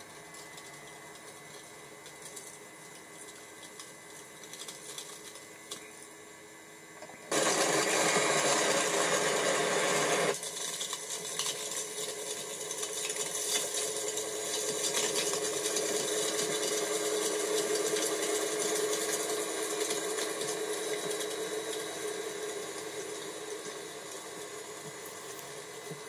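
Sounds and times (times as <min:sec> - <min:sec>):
rotary snowplow running: 0:00.0 - 0:06.1, 0:07.0 - 0:26.0.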